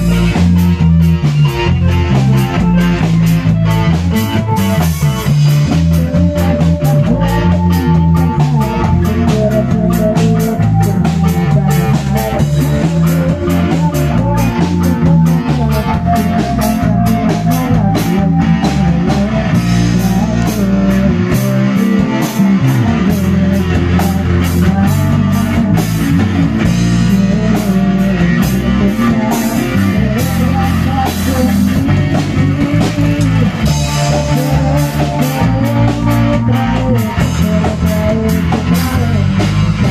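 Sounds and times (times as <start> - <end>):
drum kit beat: 0.0 - 39.9
electric guitars: 0.0 - 39.9
keyboard: 0.0 - 39.9.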